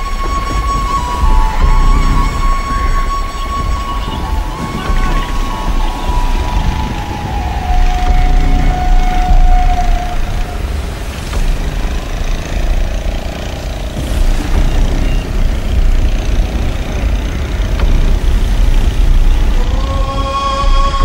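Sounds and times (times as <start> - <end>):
low rumble of wind: 0.0 - 21.0
outboard motor running: 0.0 - 21.0
waves washing: 0.0 - 21.0.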